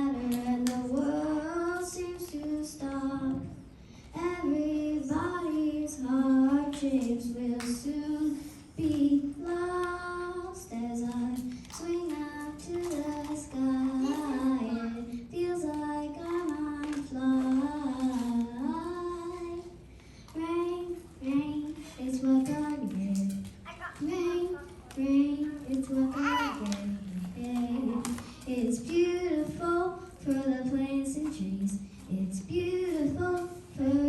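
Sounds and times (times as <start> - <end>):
girl singing a cappella: 0.0 - 34.0.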